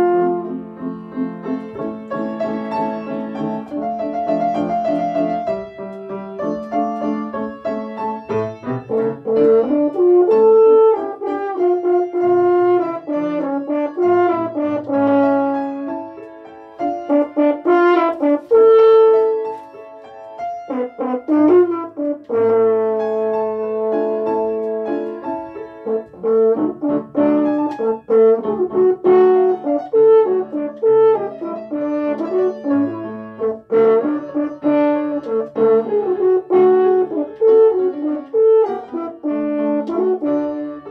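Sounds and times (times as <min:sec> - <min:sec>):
french horn melody: 0:00.0 - 0:20.0, 0:20.7 - 0:40.9
piano accompaniment: 0:00.0 - 0:40.9.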